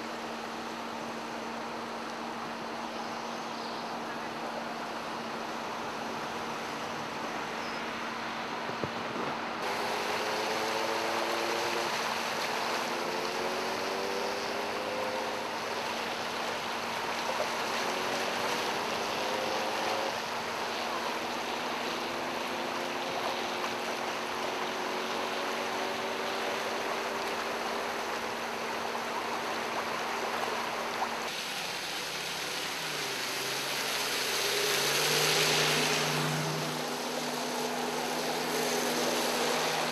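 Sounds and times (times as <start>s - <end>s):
car engines humming: 0.0s - 39.9s
water rushing under tyres: 0.0s - 39.9s.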